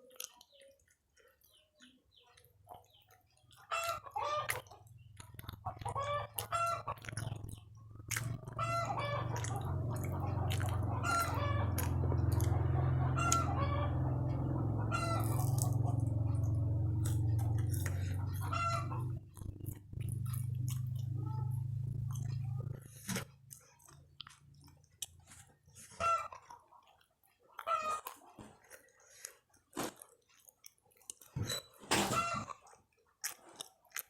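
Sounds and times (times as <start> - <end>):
chickens clucking: 0.1 - 29.2, 31.4 - 32.8.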